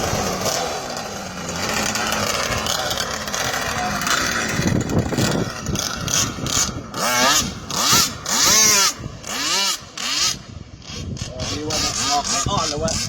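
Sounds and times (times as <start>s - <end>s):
model boat engine revving: 0.0s - 13.0s.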